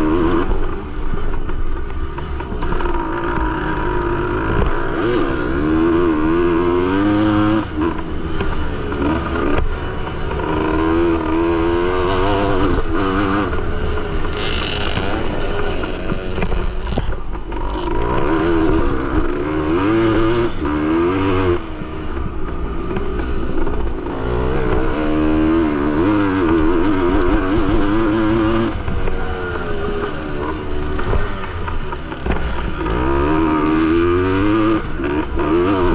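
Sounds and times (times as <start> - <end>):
motocross engine revving: 0.0 - 35.9.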